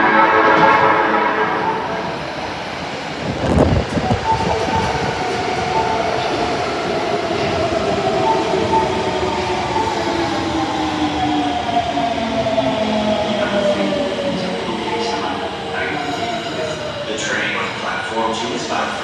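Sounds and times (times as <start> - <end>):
subway train motor whine: 0.0 - 19.0
rumbling wheels on track: 0.5 - 17.9.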